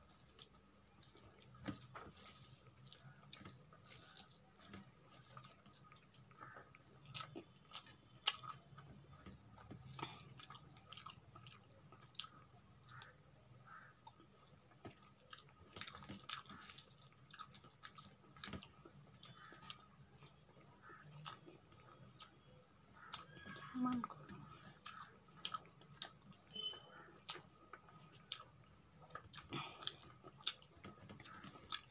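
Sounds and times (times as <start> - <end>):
person chewing food: 0.0 - 31.9.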